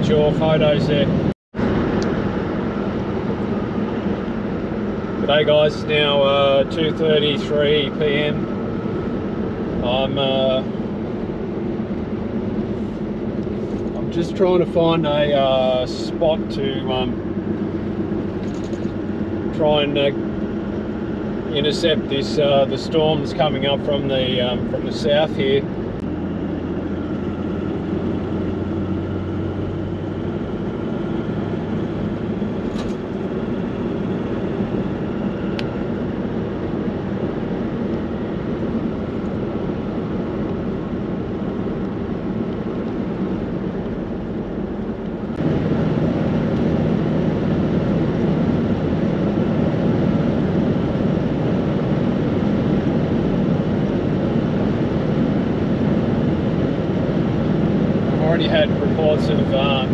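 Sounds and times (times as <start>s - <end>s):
car road noise from inside: 0.0s - 50.1s, 56.6s - 59.9s.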